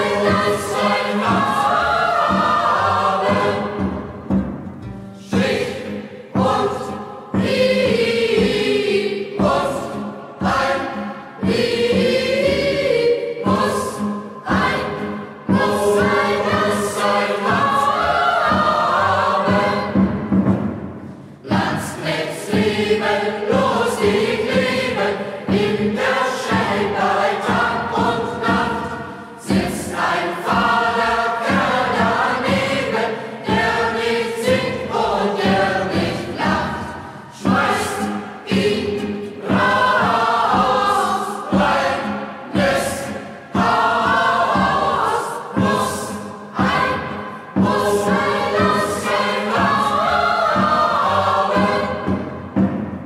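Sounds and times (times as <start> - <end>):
youth choir singing marching song: 0.0 - 53.0.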